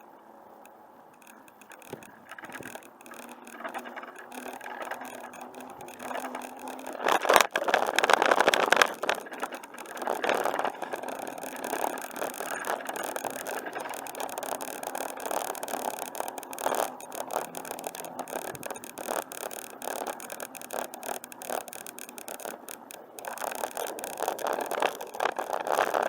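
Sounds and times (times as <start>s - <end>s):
bicycle rattling: 0.6s - 26.0s
bicycle tyres on pavement: 0.7s - 26.0s.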